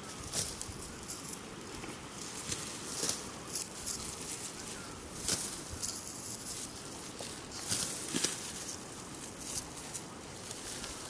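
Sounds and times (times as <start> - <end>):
dry wheat stalks rustling: 0.0 - 11.0.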